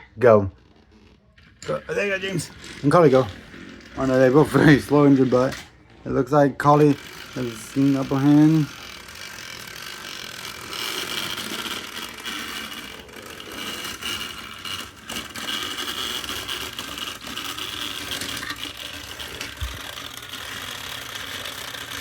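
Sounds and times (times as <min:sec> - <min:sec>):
toy train engines whirring: 0:00.0 - 0:22.0.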